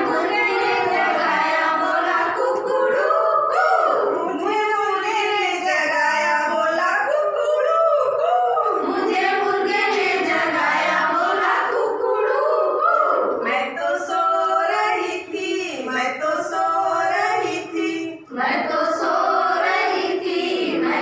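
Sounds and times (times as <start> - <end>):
women singing unaccompanied: 0.0 - 21.0.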